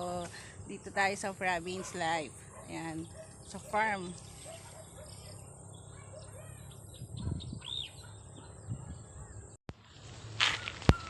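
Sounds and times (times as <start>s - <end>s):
outdoor background hum: 0.0s - 11.0s
birds chirping: 0.4s - 9.6s.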